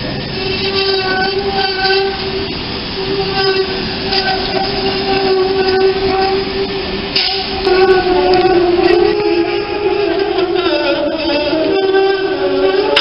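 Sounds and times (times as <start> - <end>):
trolley wheels squealing: 0.0 - 13.0.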